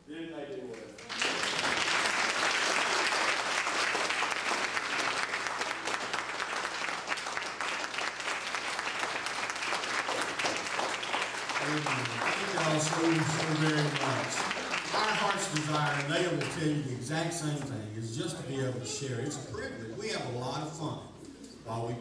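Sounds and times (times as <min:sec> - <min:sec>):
congregation applauding: 0:00.5 - 0:19.7.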